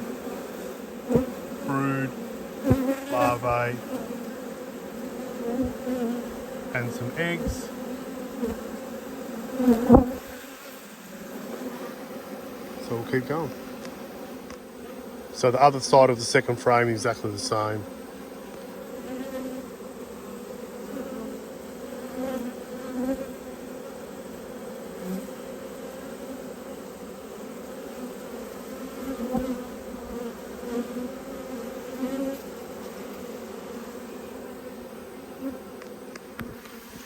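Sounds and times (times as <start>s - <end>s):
bee flying close past: 0.0s - 16.5s, 17.2s - 37.0s
bees buzzing: 0.0s - 37.0s.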